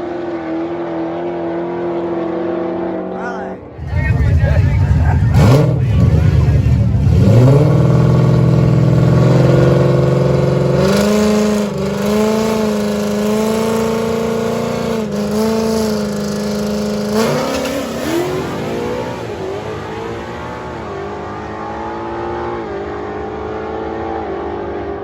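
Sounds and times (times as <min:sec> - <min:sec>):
car engine at full throttle: 0:00.0 - 0:25.0.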